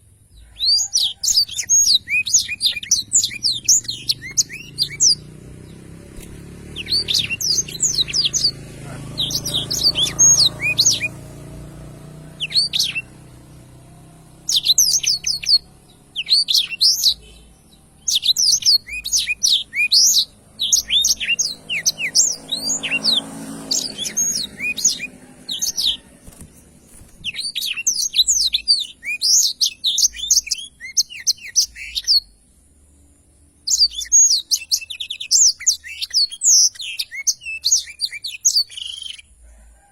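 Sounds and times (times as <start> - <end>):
canary singing: 0.0 - 32.5, 33.6 - 39.4.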